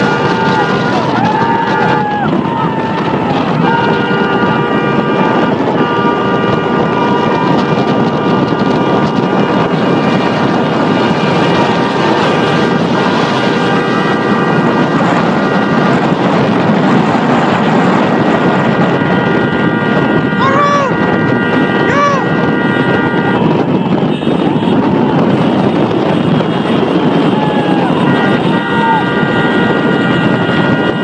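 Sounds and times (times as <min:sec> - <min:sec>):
heavy wind on microphone: 0:00.0 - 0:31.0
vehicle engine and tyres on sand: 0:00.0 - 0:31.0.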